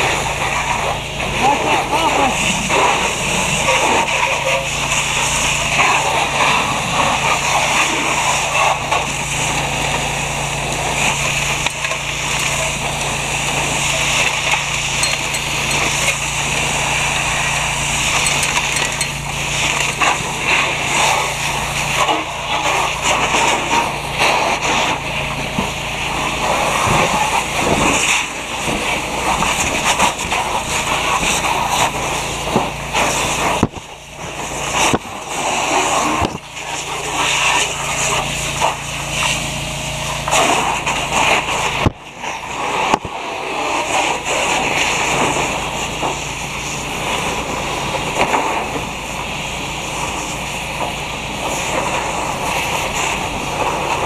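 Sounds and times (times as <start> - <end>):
fire hose water spraying: 0.0 - 54.0.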